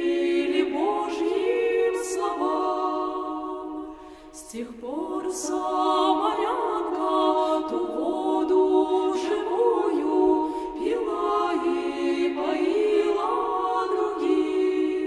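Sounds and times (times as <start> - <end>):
women's choir singing: 0.0 - 15.0.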